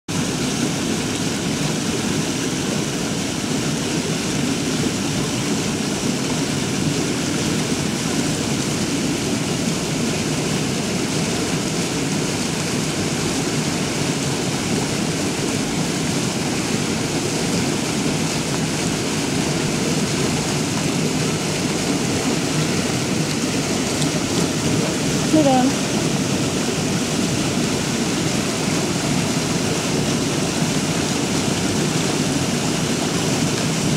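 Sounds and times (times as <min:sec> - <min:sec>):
floodwater rushing over drop: 0:00.1 - 0:33.9.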